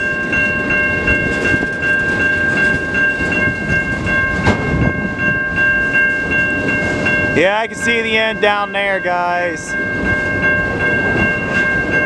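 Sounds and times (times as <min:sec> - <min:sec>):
crossing bell ringing: 0:00.0 - 0:12.0
train wheels clattering on rails: 0:00.0 - 0:12.0.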